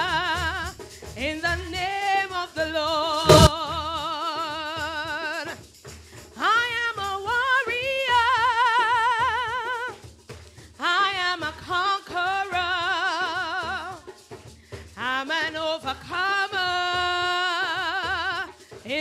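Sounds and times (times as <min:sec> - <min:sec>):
woman singing gospel: 0:00.0 - 0:05.6, 0:06.4 - 0:10.0, 0:10.8 - 0:14.1, 0:15.0 - 0:19.0.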